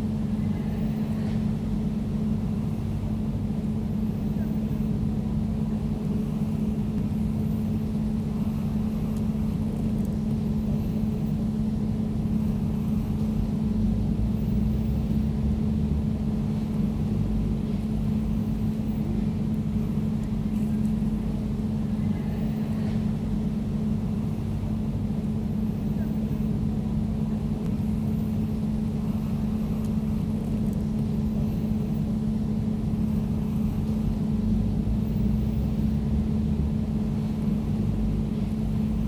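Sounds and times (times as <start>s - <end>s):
air conditioner humming: 0.0s - 39.0s.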